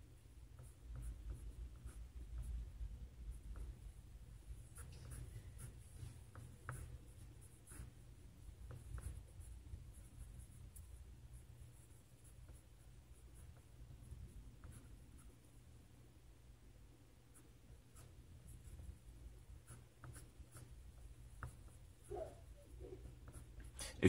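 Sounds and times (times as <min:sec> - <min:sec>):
pencil scratching on paper: 0:00.5 - 0:15.3, 0:17.3 - 0:23.7.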